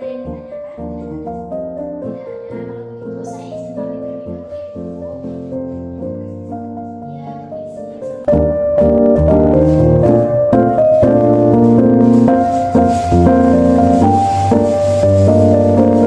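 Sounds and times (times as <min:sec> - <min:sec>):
instrumental music with piano: 0:00.0 - 0:16.0.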